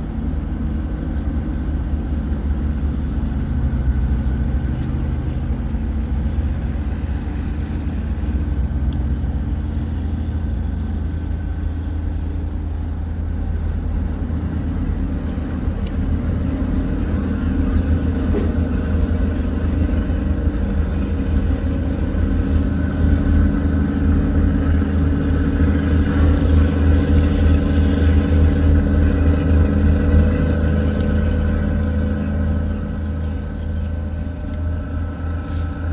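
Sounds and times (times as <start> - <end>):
boat diesel engine running: 0.0 - 35.9.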